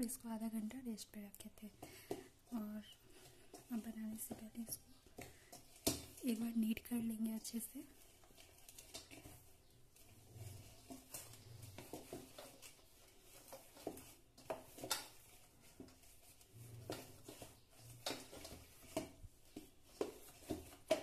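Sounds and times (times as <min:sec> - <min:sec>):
hands kneading dough: 0:00.0 - 0:21.0.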